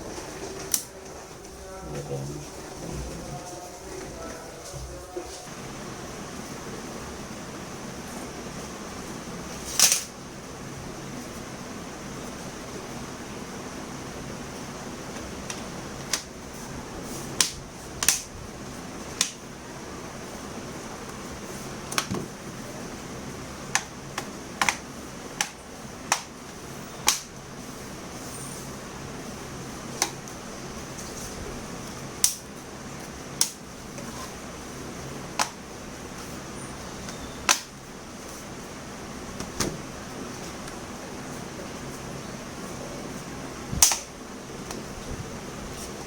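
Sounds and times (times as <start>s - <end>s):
steady low hiss: 0.0s - 46.0s.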